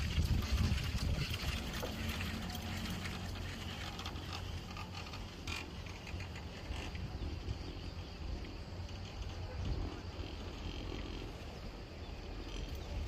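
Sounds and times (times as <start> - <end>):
insects chirring: 0.0 - 13.0
wind buffeting microphone: 0.0 - 13.0.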